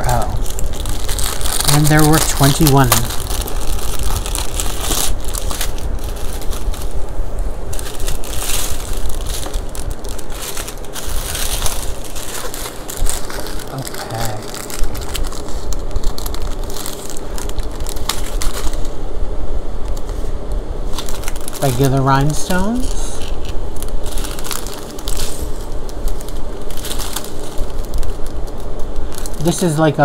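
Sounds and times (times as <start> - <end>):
plastic bags rustling and crackling: 0.0 - 19.0, 19.8 - 30.0.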